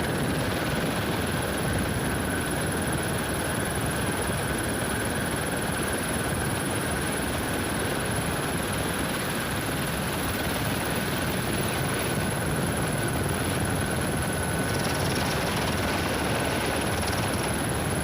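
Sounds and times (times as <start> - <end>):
helicopter rotor and turbine: 0.0 - 18.0.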